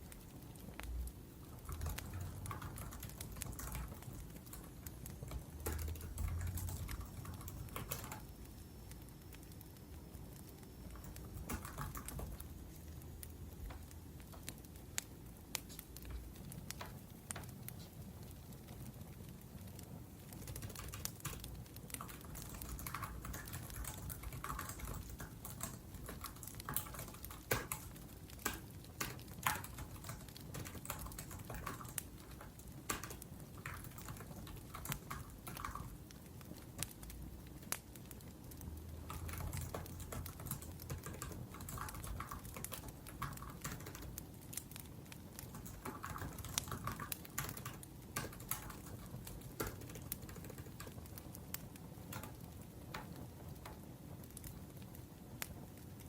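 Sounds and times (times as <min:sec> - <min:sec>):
wood fire crackling: 0:00.0 - 0:56.0
typing on laptop keyboard: 0:00.2 - 0:09.6, 0:10.4 - 0:17.8, 0:18.6 - 0:53.8.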